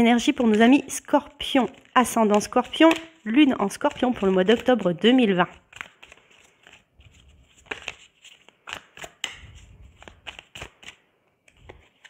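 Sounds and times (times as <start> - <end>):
cards being shuffled: 1.5 - 12.0.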